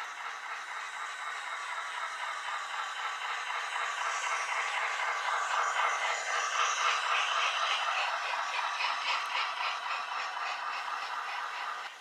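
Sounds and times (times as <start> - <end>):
model train rattling and whirring: 0.0 - 12.0
wheels clicking on rail joints: 0.0 - 12.0.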